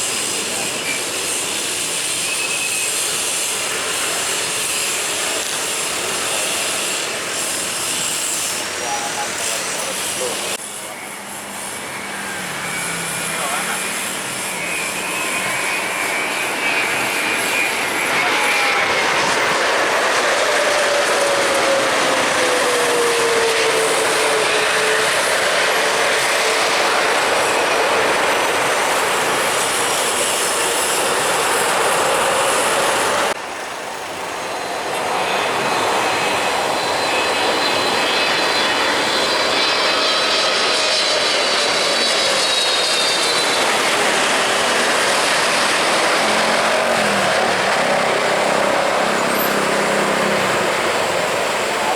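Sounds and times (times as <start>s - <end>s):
jet engine whine: 0.0s - 51.9s
jet engines passing: 0.0s - 51.9s.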